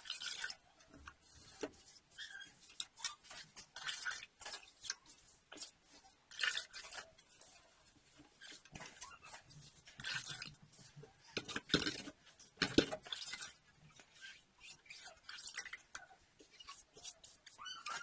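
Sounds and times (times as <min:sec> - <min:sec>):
objects being handled: 0:00.0 - 0:18.0.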